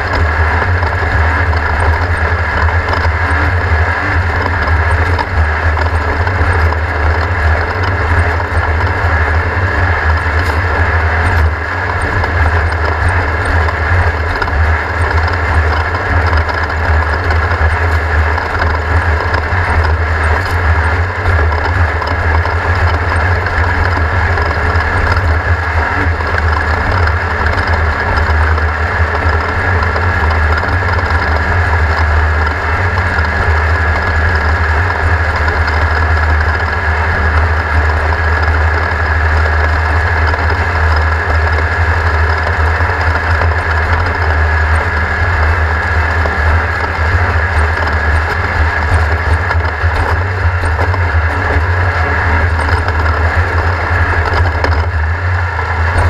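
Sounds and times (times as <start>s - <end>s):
race car engine droning: 0.0s - 56.0s.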